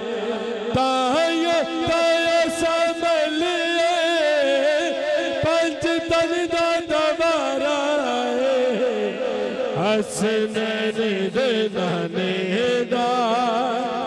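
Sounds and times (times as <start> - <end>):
man singing through a microphone: 0.0 - 14.0.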